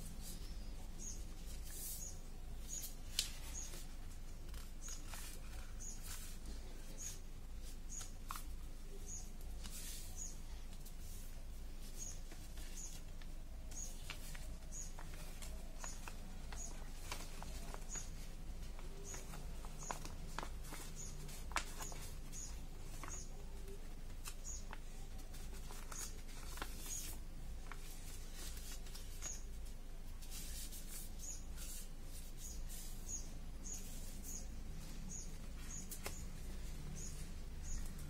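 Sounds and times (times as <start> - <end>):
paper rustling and crinkling: 1.2 - 33.0.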